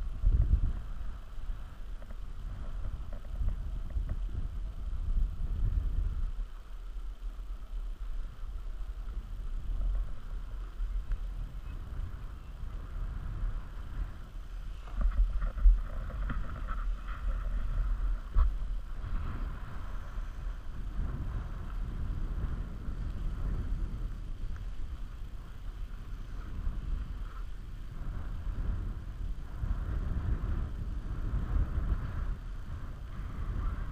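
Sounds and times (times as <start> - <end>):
skis sliding over snow: 0.0 - 33.9
wind buffeting microphone: 0.0 - 33.9.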